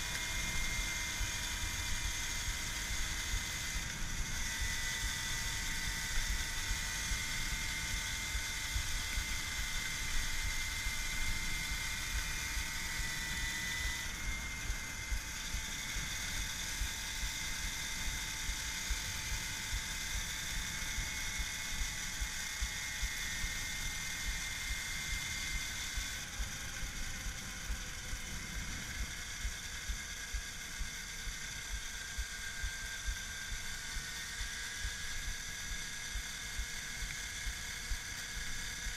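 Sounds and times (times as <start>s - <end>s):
electric motor whining: 0.0s - 38.9s.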